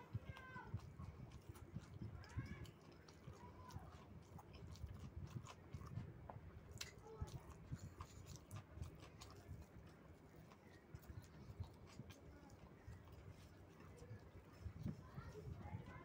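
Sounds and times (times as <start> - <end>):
person chewing food: 0.0 - 16.0
mouth and teeth clicks: 0.7 - 15.0.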